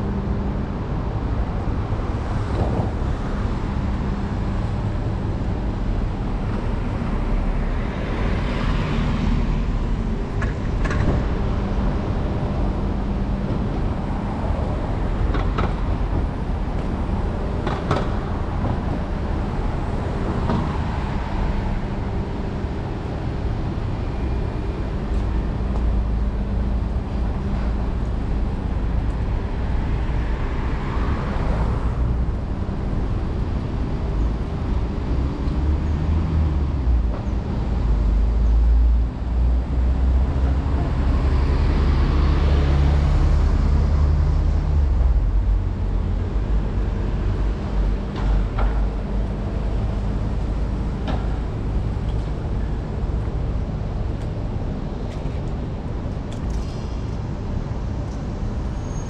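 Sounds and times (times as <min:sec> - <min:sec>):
road traffic rumble: 0:00.0 - 0:59.0
vehicles passing: 0:00.0 - 0:59.0.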